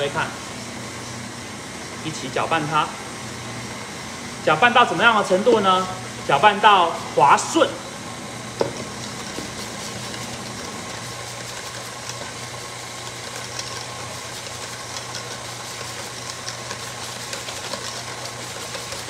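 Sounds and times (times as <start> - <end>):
stand mixer running: 0.0 - 19.0.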